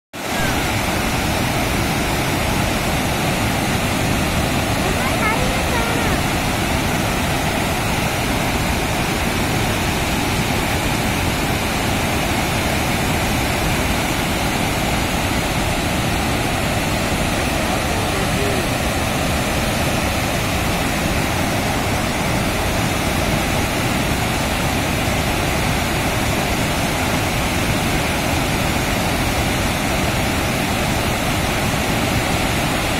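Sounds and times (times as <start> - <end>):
water rushing from dam spillway: 0.2 - 32.9.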